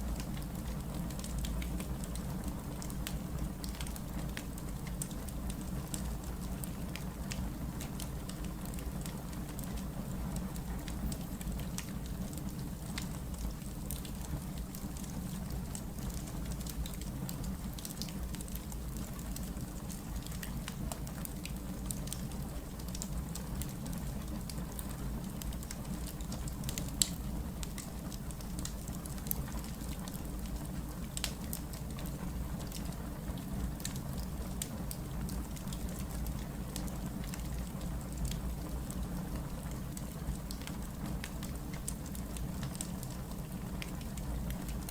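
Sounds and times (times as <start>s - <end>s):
wood fire crackling: 0.1s - 44.9s.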